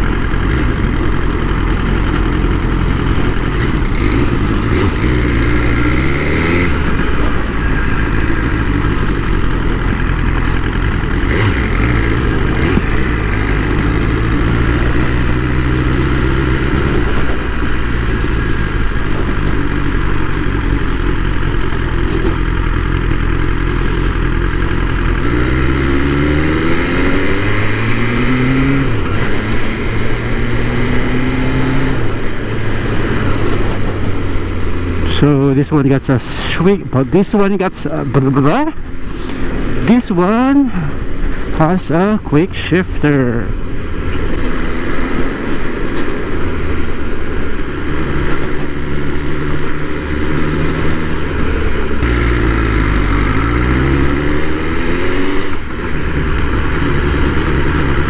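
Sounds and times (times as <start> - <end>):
motorcycle engine running and accelerating: 0.0 - 58.0.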